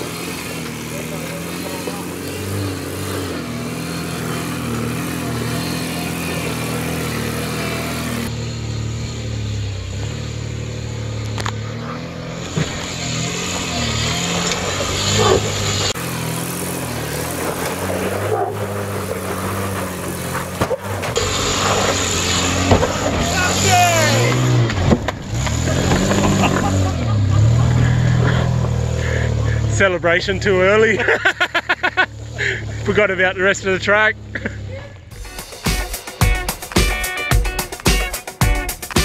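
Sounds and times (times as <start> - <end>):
engine working under load: 0.0 - 35.2.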